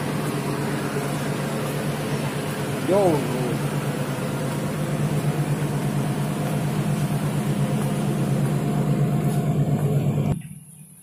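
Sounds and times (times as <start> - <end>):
ship engines droning: 0.0 - 10.7.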